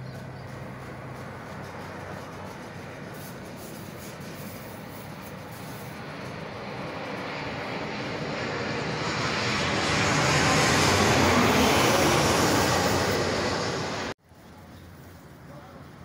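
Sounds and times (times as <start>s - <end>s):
jet airliner roaring overhead: 0.0s - 14.2s.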